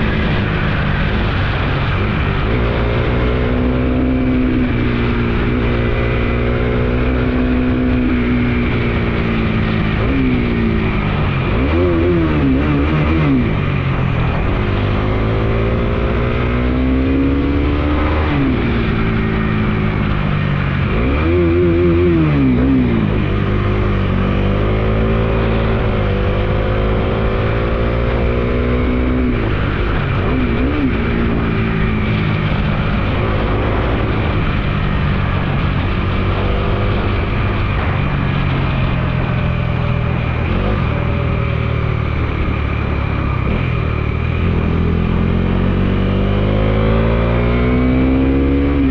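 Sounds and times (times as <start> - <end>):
motorcycle engine revving: 0.0 - 48.9
wind and road noise: 0.0 - 48.9.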